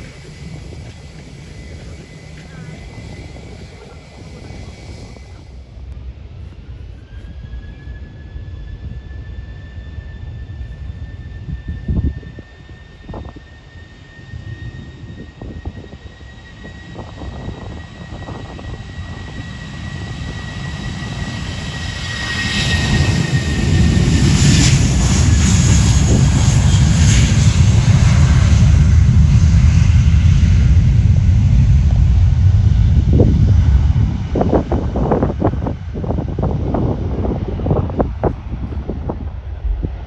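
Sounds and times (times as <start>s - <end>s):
airplane engine roar: 0.0s - 40.0s
airplane engine whine: 0.0s - 40.0s.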